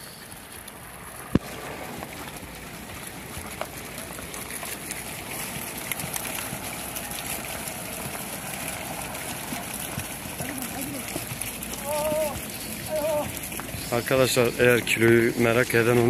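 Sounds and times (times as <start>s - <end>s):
hooves clicking on gravel: 0.0s - 16.0s.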